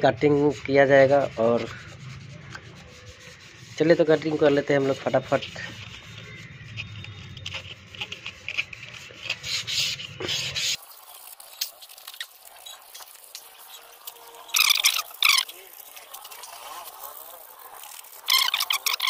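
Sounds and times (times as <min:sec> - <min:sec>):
sandpaper rasping on metal: 0:00.0 - 0:19.0.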